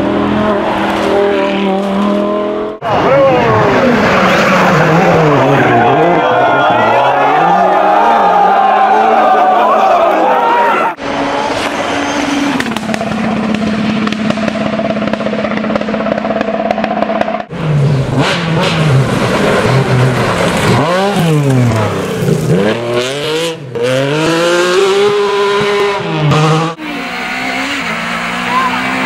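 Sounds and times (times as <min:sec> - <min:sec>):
rally car engine at high revs: 0:00.0 - 0:06.4, 0:11.0 - 0:29.0
rally car engine revving hard: 0:00.0 - 0:06.4, 0:11.0 - 0:29.0.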